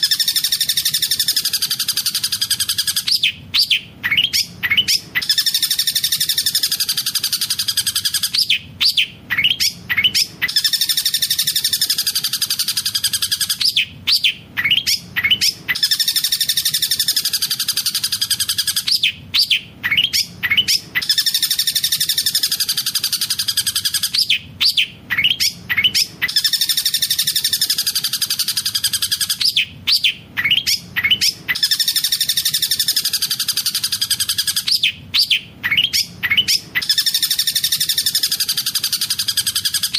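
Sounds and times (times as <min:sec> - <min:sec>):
bird singing rolling trill: 0:00.0 - 0:39.9
mimicked kingfisher calls: 0:00.0 - 0:39.9
sharp bird notes: 0:00.0 - 0:39.9.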